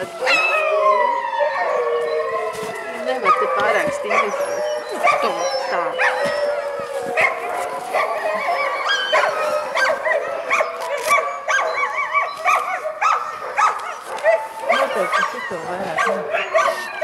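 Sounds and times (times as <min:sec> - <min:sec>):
dogs whining and yelping: 0:00.0 - 0:17.0.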